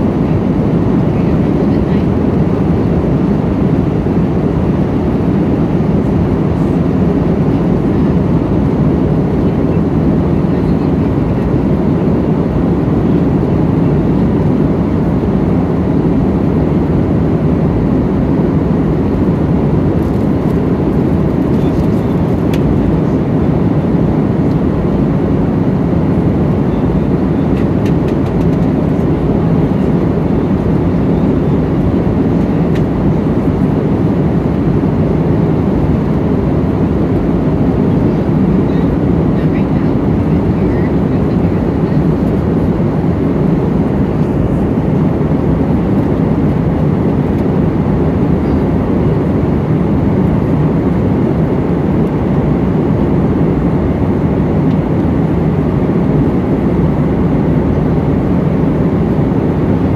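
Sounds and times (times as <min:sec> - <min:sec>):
airliner engines rumbling: 0:00.0 - 0:59.9
rushing air in cabin: 0:00.0 - 0:59.9.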